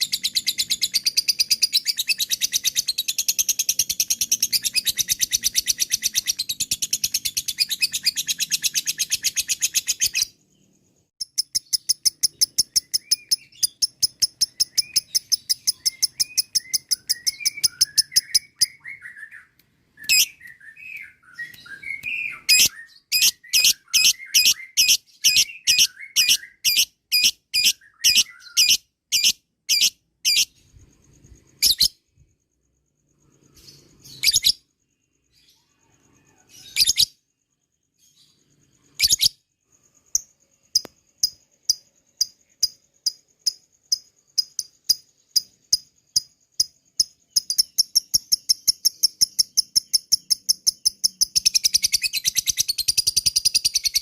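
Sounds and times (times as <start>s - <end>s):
soft bird twittering: 0.0s - 54.0s.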